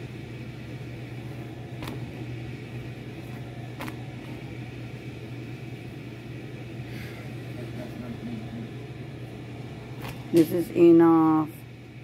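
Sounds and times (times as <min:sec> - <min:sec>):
kitchen fan humming: 0:00.0 - 0:12.0.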